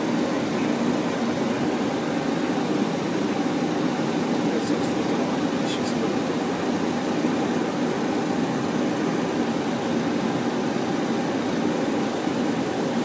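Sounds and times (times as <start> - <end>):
aircraft cockpit engine hum: 0.0 - 13.0.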